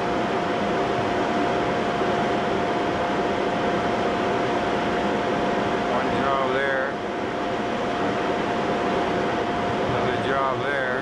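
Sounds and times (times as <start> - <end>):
shop equipment drone: 0.0 - 11.0.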